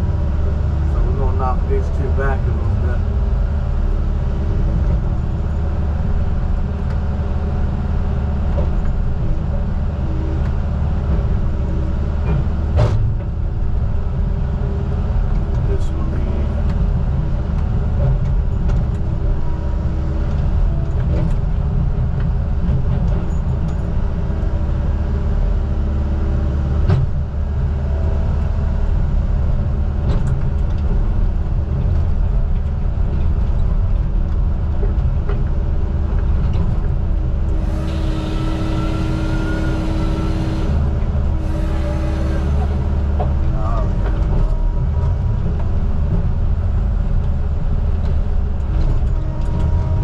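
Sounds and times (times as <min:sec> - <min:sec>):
heavy machine engine running: 0:00.0 - 0:50.0.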